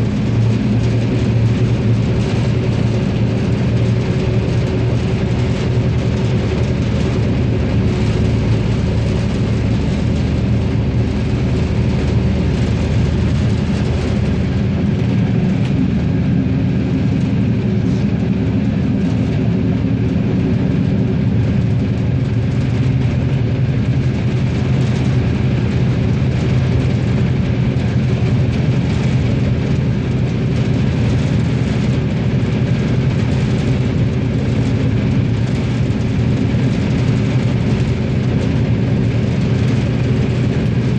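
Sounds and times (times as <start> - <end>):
railcar engine drone: 0.0 - 40.9.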